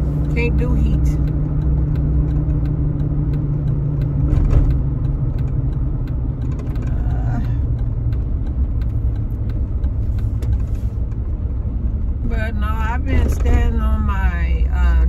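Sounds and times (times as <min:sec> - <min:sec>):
low rumble with hum: 0:00.0 - 0:15.0.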